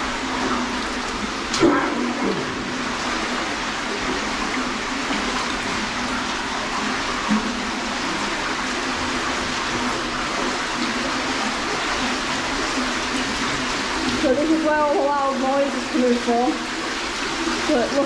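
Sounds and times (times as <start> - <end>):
water rushing through a culvert: 0.0 - 18.0.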